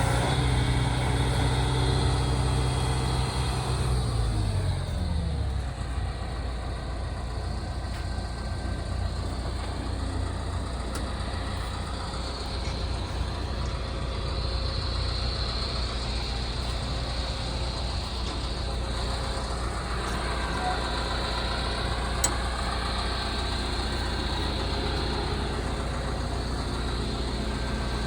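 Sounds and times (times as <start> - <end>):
diesel excavator engine idling: 0.0 - 28.0.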